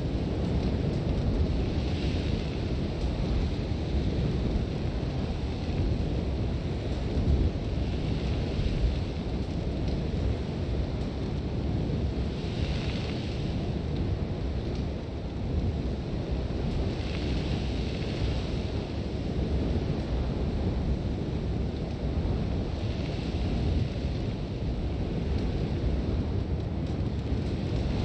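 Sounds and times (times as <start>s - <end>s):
wind blowing hard: 0.0s - 28.0s.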